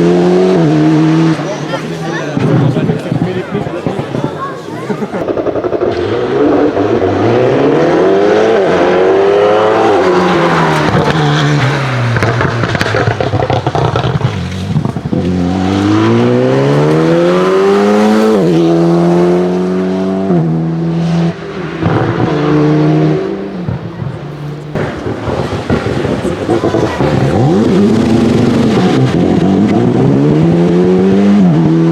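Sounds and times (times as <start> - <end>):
exhaust crackles: 0.0 - 31.9
rally car engine revving: 0.0 - 31.9.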